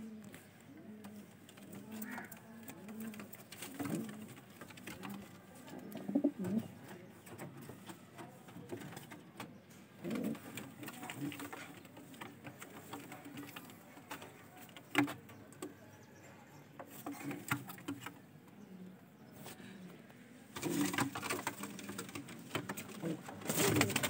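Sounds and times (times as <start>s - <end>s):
pigeons cooing: 0.0s - 7.6s, 8.2s - 14.3s, 14.9s - 24.0s.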